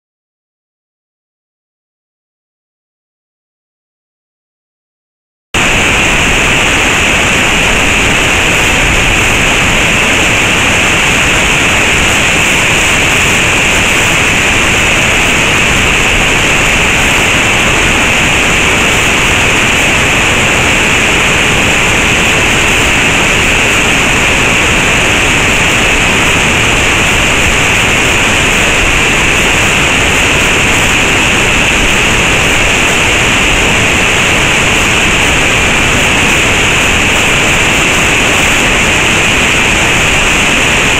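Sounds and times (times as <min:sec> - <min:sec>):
waterfall rushing: 0:05.6 - 0:40.9.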